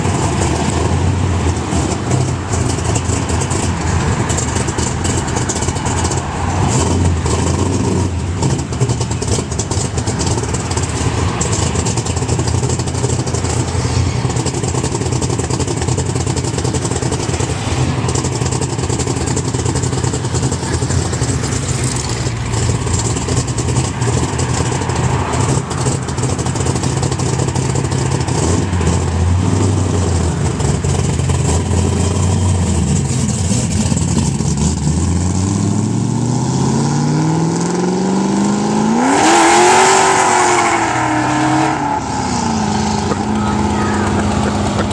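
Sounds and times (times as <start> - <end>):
car engine running: 0.0 - 36.0, 41.1 - 44.9.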